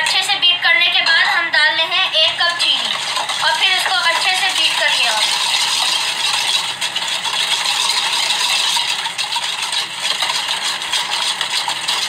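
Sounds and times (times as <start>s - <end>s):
wire whisk beating in a metal bowl: 0.0s - 12.0s.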